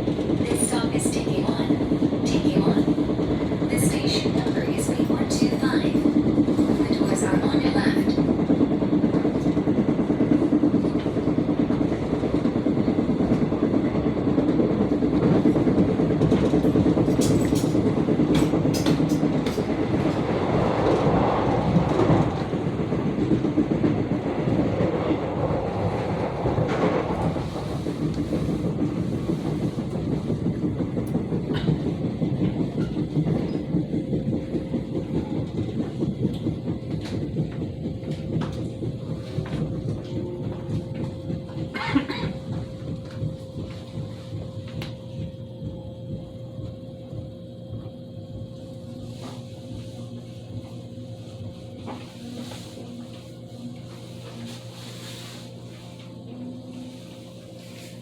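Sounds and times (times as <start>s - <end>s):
train wheels thumping on rails: 0.0s - 46.7s
electric train running: 0.0s - 58.0s.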